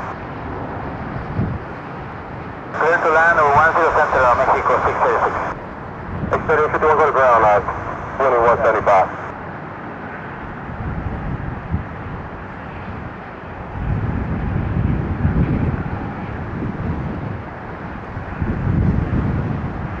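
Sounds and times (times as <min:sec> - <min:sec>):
wind buffeting microphone: 0:00.0 - 0:09.3, 0:10.0 - 0:20.0
jet aircraft rumble: 0:00.0 - 0:20.0.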